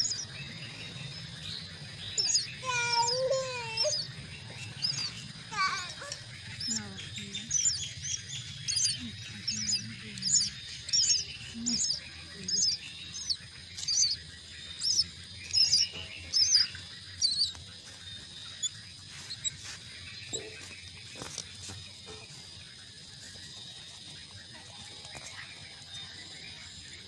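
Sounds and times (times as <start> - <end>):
chicks begging chirps: 0.0 - 27.0.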